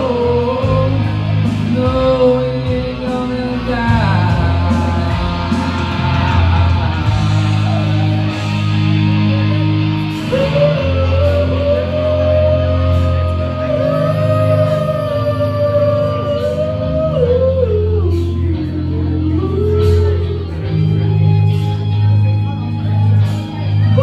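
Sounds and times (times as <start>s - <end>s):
man singing karaoke: 0.0s - 24.0s
rock backing track: 0.0s - 24.0s.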